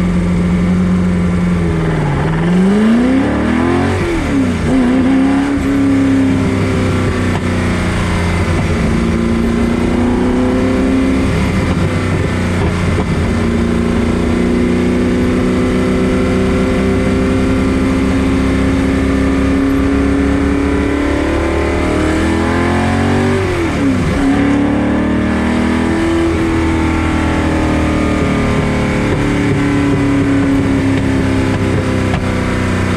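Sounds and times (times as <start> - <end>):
car engine cruising: 0.0 - 32.9.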